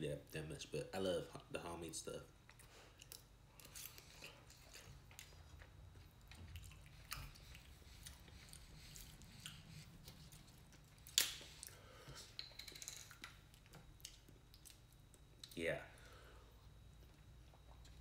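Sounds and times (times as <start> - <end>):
chewing and eating noises: 2.2 - 15.6, 16.4 - 18.0.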